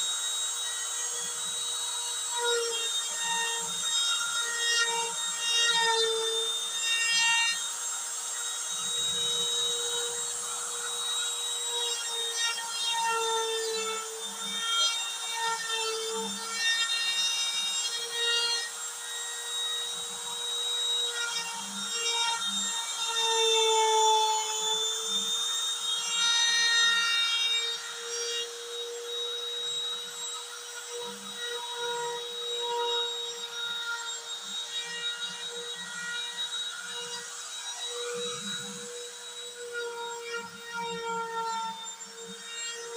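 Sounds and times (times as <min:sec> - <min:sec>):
bit carving into wood board: 0:00.0 - 0:42.9
router spindle whining: 0:00.0 - 0:42.9.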